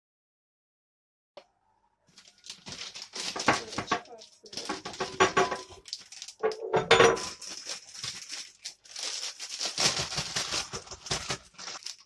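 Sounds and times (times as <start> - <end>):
plastic bag rustling and crinkling: 2.1 - 12.0.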